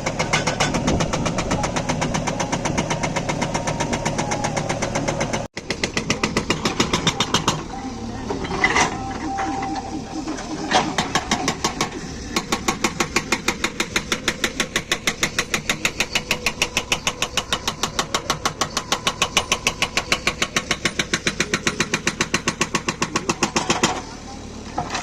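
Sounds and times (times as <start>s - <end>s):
hydraulic rock breaker hammering: 0.0s - 9.7s, 10.3s - 25.0s.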